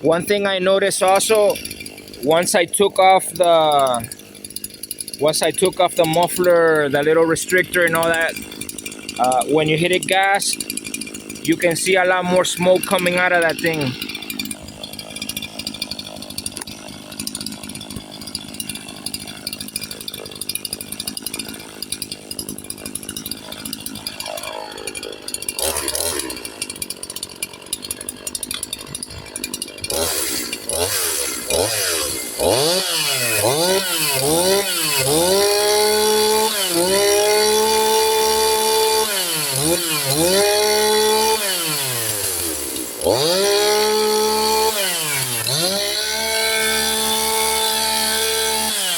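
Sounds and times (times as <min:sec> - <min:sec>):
chainsaw revving: 0:00.0 - 0:48.9.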